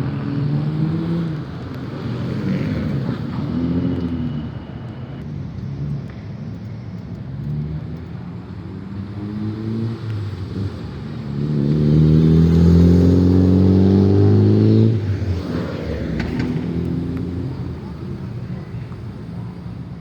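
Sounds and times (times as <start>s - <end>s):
car engine and exhaust: 0.0s - 20.0s.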